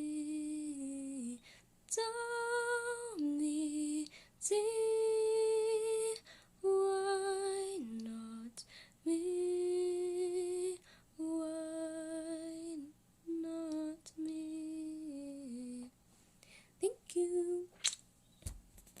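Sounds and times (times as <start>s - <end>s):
woman singing wordless notes: 0.0s - 15.9s, 16.8s - 17.7s.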